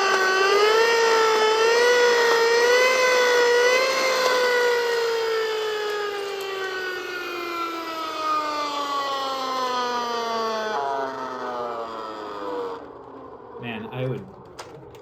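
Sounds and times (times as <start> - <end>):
toy siren horn: 0.0 - 13.1.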